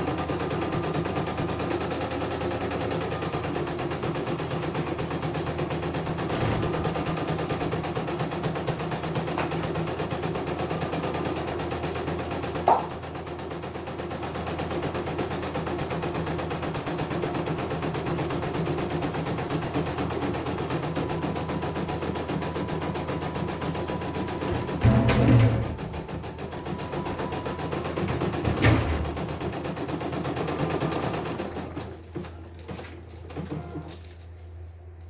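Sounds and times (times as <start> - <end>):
embroidery machine stitching: 0.0 - 33.9.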